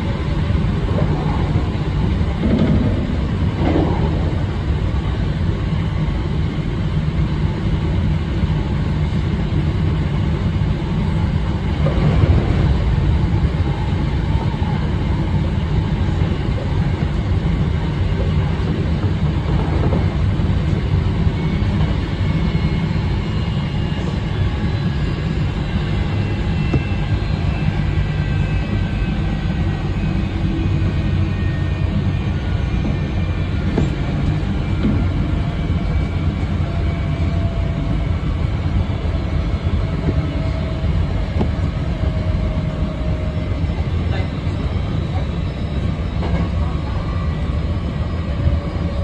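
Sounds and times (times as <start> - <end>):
electric train rumbling: 0.0 - 49.0.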